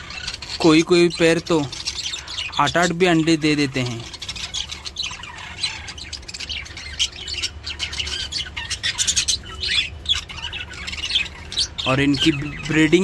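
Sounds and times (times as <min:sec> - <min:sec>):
budgerigars chirping and squawking: 0:00.0 - 0:13.0.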